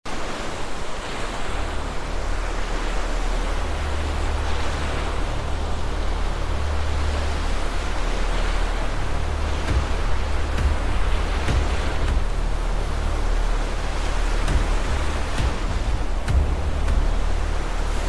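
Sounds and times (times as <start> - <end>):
rushing surf: 0.1 - 18.0
deep rumble: 3.3 - 18.0.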